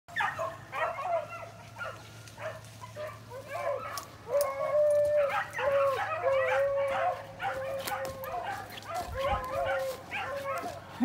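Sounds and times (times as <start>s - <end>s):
dogs yelping barks: 0.1s - 11.0s
dogs baying long bawls: 0.2s - 11.0s.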